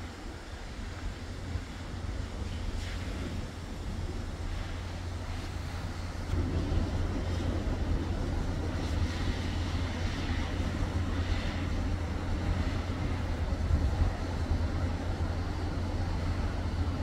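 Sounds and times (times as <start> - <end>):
city traffic rumble: 0.0 - 17.0
railway background noise: 0.0 - 17.0.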